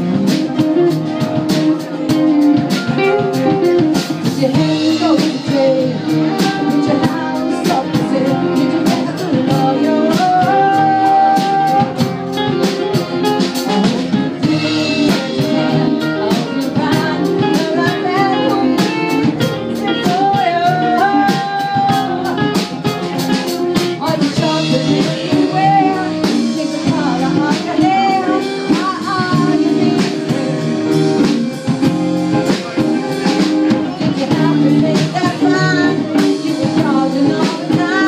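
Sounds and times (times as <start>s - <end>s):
drum kit beat: 0.0s - 38.0s
electric guitar: 0.0s - 38.0s
woman singing: 1.4s - 12.9s, 13.6s - 31.4s, 33.8s - 38.0s.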